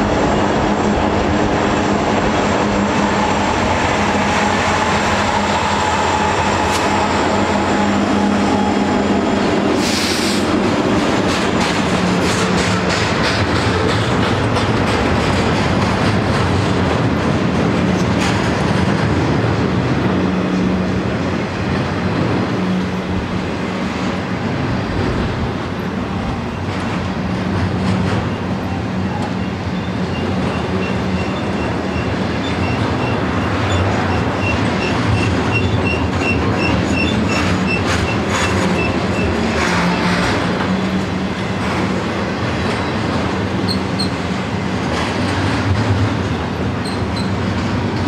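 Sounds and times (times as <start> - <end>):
freight train wheels rumbling: 0.0 - 48.0.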